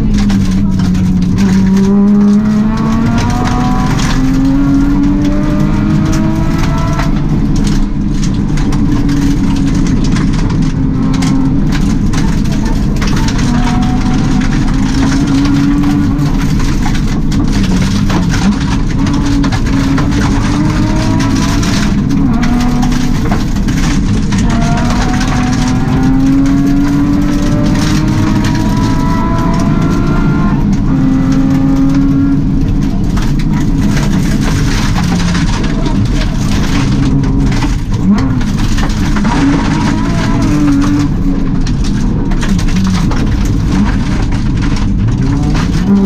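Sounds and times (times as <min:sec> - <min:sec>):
rally car engine accelerating: 0:00.0 - 0:46.0
tyre and gravel noise: 0:00.0 - 0:46.0.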